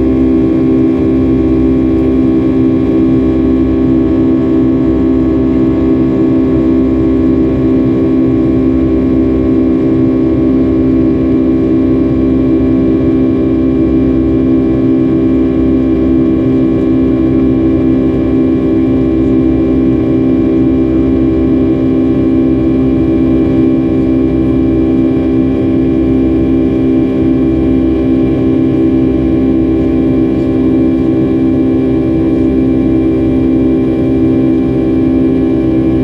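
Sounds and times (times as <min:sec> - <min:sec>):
jet engine drone in cabin: 0:00.0 - 0:36.0.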